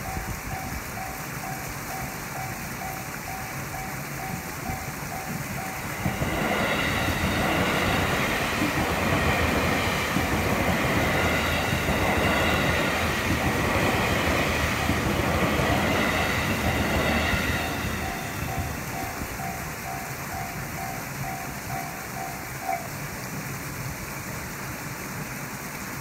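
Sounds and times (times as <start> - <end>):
level crossing warning bell ringing: 0.0 - 22.9
electric train passing on rails: 0.0 - 26.0.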